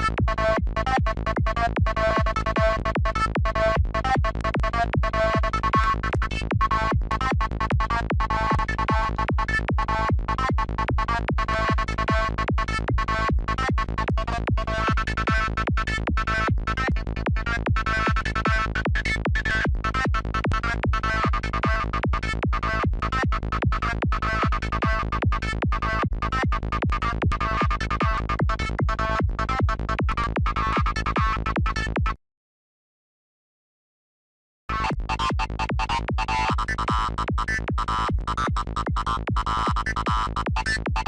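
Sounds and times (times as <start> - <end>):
steady low bass: 0.0 - 32.2, 34.7 - 41.0.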